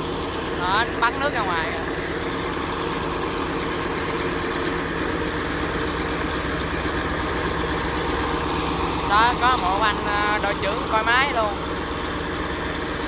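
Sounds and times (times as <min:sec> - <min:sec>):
pump engine running: 0:00.0 - 0:13.0.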